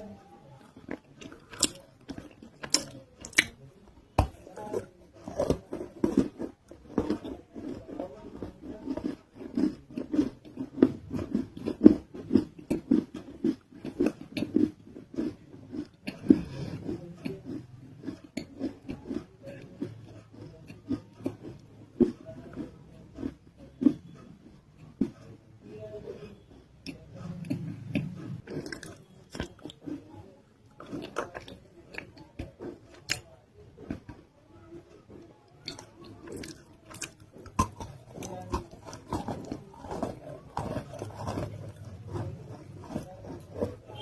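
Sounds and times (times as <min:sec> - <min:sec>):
clay being bitten and chewed: 0:00.0 - 0:44.0.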